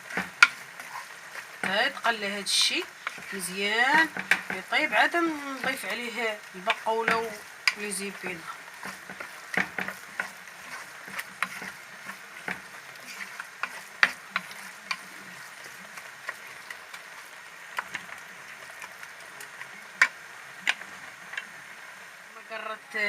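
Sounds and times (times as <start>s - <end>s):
herbs sizzling in oil: 0.0s - 23.0s.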